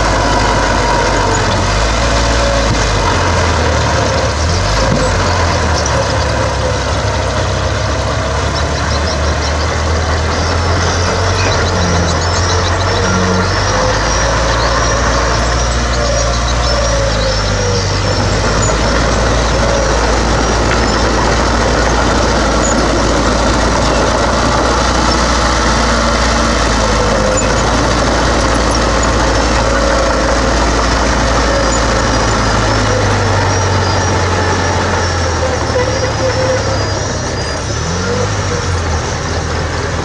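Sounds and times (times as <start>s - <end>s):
heavy diesel machinery engine drone: 0.0s - 40.0s.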